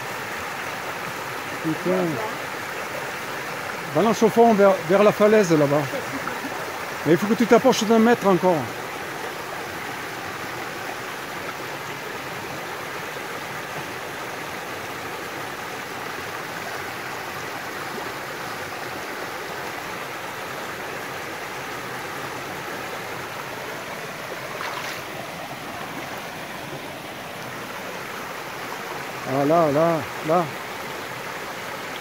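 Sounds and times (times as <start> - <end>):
creek rushing over rocks: 0.0 - 32.0.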